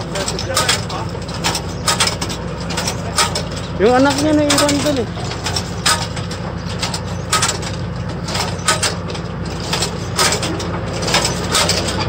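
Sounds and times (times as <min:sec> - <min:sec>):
planter mechanical clicks and knocks: 0:00.0 - 0:12.0
tractor engine running: 0:00.0 - 0:12.0.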